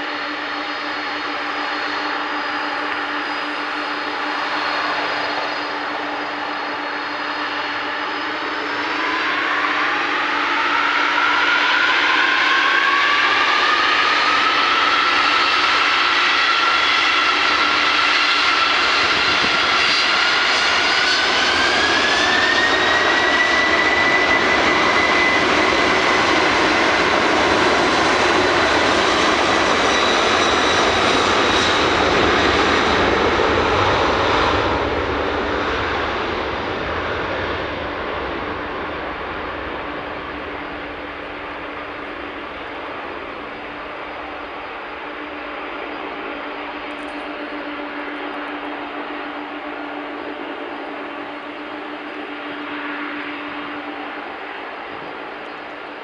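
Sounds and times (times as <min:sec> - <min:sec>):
jet engine whine: 0:00.0 - 0:56.0
jet engines roaring: 0:00.0 - 0:56.0.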